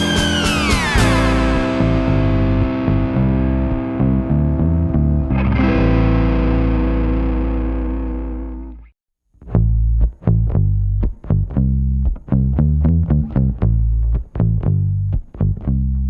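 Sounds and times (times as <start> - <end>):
bass line: 0.0 - 16.0
distorted electric guitar: 0.0 - 16.0
plucked notes: 0.0 - 16.0.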